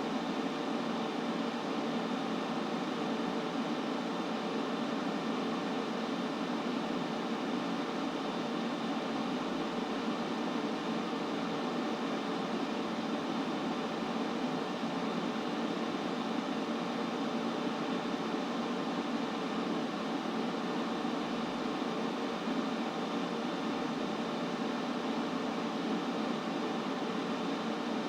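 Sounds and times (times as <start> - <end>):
steady white noise hiss: 0.0 - 28.0.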